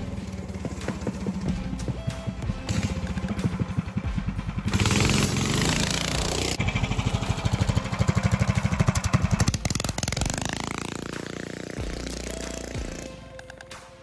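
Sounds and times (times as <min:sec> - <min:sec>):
engine revving as trike passes: 0:00.0 - 0:13.2.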